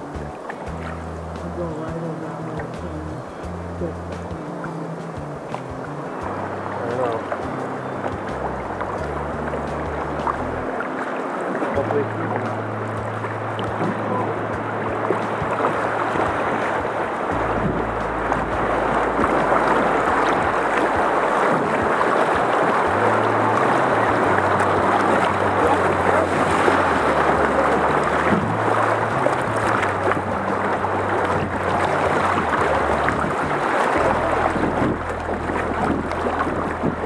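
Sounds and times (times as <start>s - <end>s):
paddle strokes in water: 0.0s - 37.0s
river water rushing and splashing: 0.0s - 37.0s
wind rumbling on microphone: 0.0s - 37.0s.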